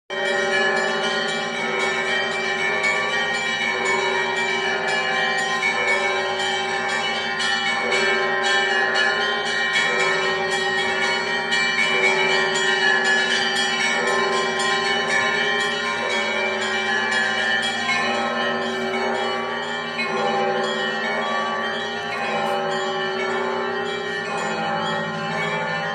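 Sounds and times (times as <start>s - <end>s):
hum of large bells: 0.1s - 25.9s.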